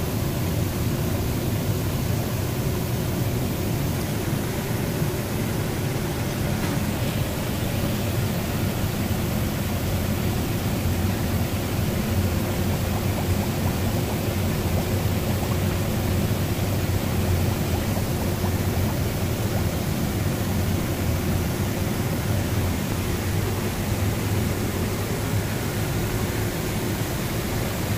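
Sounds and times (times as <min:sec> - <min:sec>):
liquid churning and bubbling: 0:00.0 - 0:27.9
steady low hum: 0:00.0 - 0:27.9.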